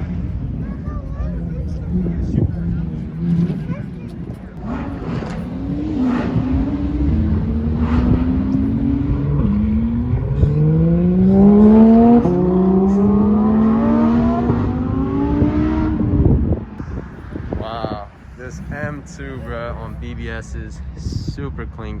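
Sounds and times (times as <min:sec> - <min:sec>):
sports car engine accelerating: 0:00.0 - 0:21.3.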